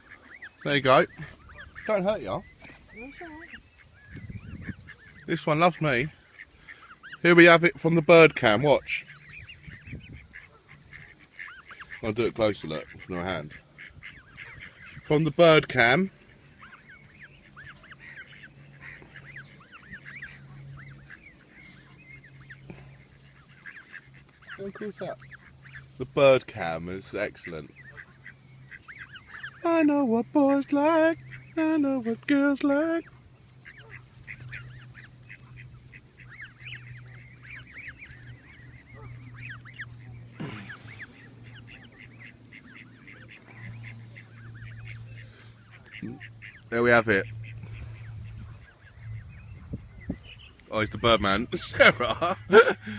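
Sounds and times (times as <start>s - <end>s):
steady low hum: 0.0s - 52.9s
waterfowl calling: 0.0s - 52.9s.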